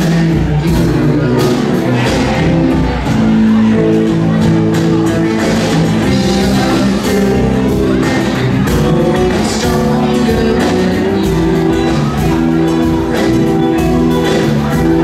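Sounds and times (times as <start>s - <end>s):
man singing: 0.0s - 15.0s
rock band playing: 0.0s - 15.0s.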